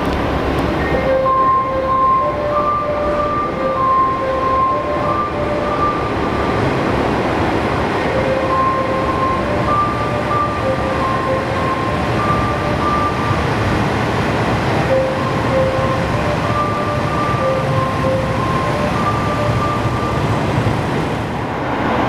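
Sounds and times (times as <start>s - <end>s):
diesel railcar engine rumble: 0.0s - 22.0s
two-note electronic tone: 0.8s - 7.1s, 8.0s - 13.7s, 14.8s - 20.6s.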